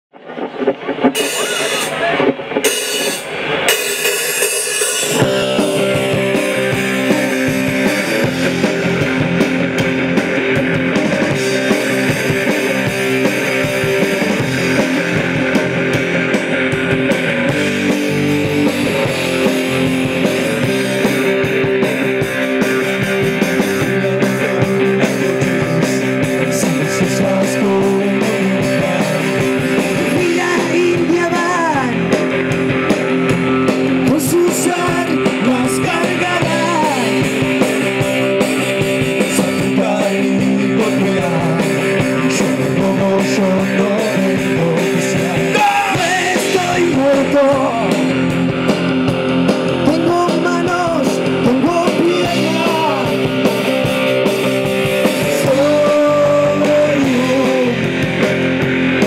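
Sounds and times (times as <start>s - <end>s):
live rock band playing: 0.1s - 59.0s.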